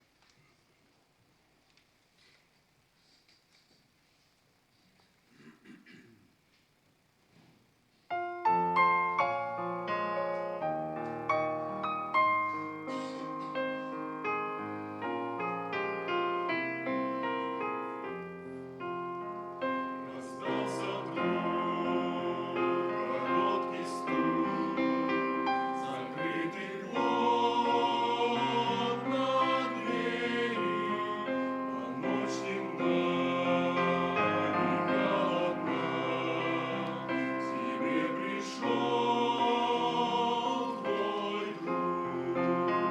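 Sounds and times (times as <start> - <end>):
piano playing: 8.1 - 42.9
choir singing a hymn: 8.5 - 42.9.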